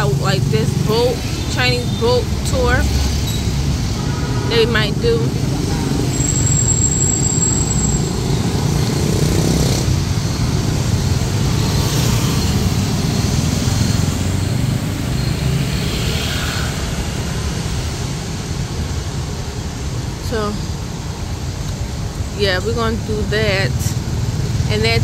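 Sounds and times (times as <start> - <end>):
motor scooter traffic passing: 0.0 - 25.0.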